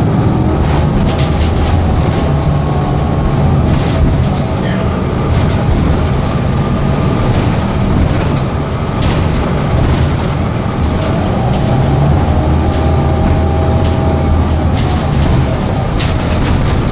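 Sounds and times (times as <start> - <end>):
air conditioning running: 0.0 - 16.9
bus low rumble: 0.0 - 16.9
cabin fittings rattling: 0.1 - 16.9.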